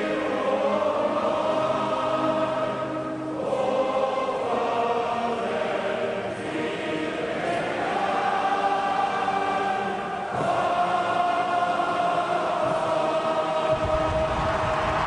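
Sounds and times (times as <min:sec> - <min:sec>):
choir singing slowly: 0:00.0 - 0:15.0.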